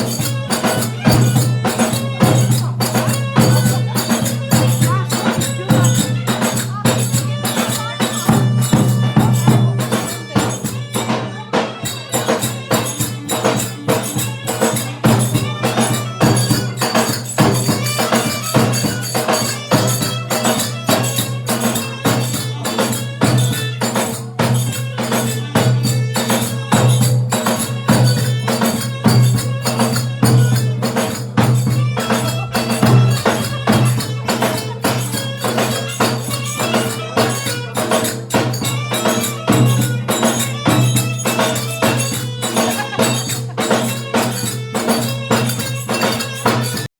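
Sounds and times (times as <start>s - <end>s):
fast percussion beat: 0.0s - 46.9s
folk dance music: 0.0s - 46.9s.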